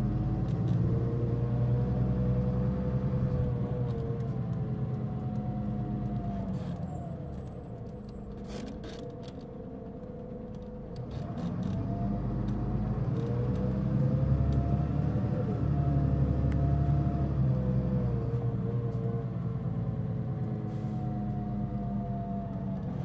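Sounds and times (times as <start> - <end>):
bus diesel engine rumble: 0.0 - 23.0.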